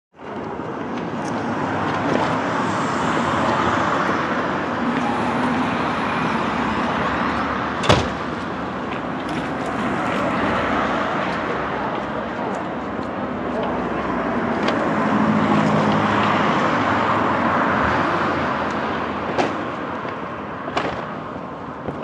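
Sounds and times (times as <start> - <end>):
passing cars traffic noise: 0.2 - 22.0.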